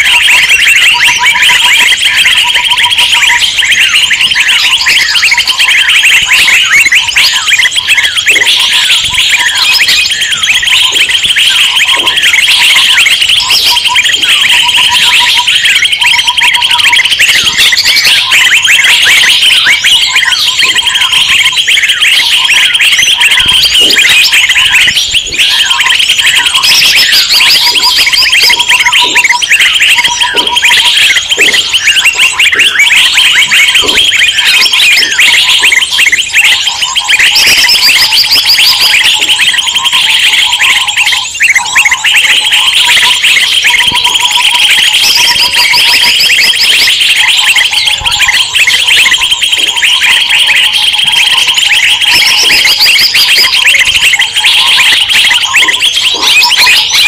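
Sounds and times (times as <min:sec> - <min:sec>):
songbirds chattering and chirping: 0:00.0 - 0:57.0.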